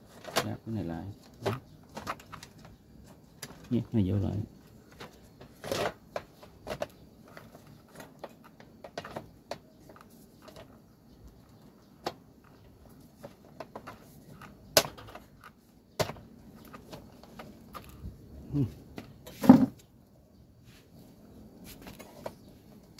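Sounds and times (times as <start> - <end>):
plastic parts clicking and knocking: 0.1 - 3.9, 4.6 - 19.9.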